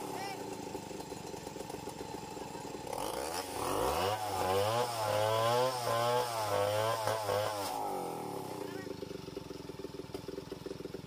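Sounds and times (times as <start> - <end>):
chainsaw cutting log: 0.0 - 11.0.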